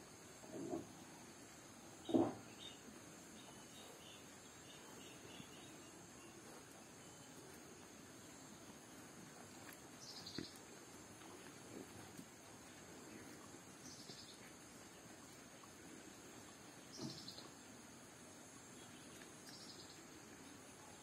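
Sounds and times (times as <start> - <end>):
insect hiss: 0.0 - 21.0.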